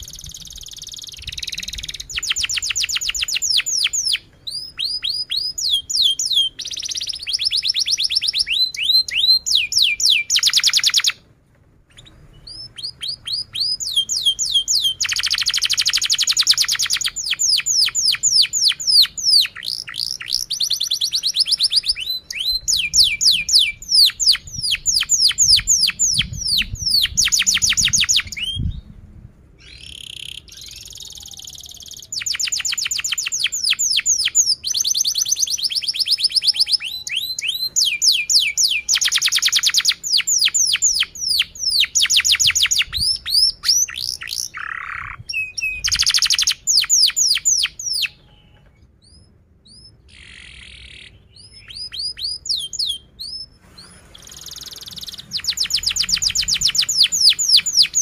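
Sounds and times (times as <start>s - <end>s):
canary singing trills: 0.0s - 11.2s, 11.9s - 28.9s, 29.6s - 58.0s.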